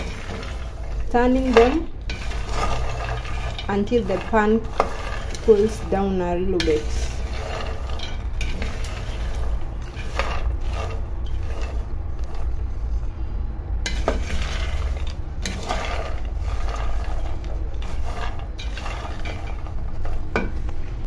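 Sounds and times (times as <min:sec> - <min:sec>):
peanuts rattling in a pan: 0:00.0 - 0:12.8, 0:13.9 - 0:20.5
low hum: 0:00.0 - 0:21.0.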